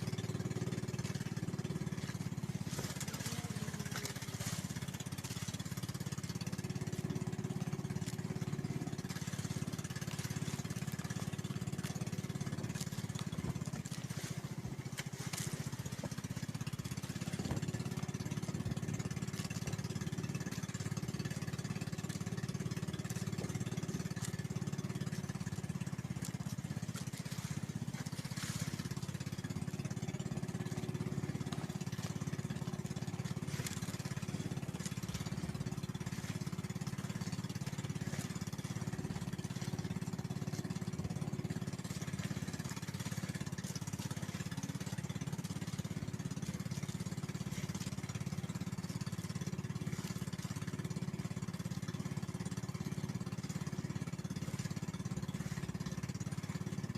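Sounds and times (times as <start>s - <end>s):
boat engine droning: 0.0s - 56.9s.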